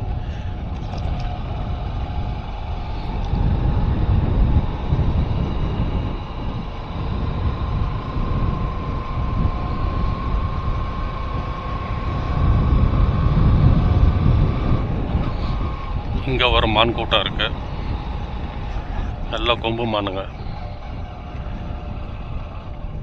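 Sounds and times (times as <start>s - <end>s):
thin steady whine: 0.0s - 23.0s
wind and road noise: 0.0s - 23.0s.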